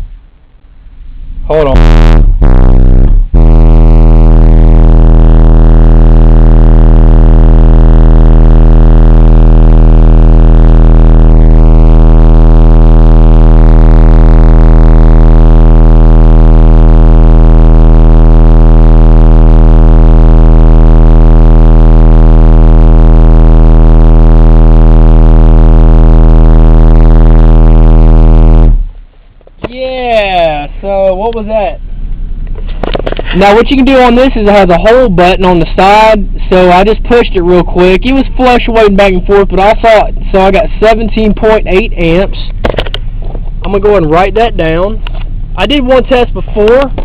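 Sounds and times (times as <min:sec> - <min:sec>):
deep buzzy test tone drone: 0:00.0 - 0:47.0.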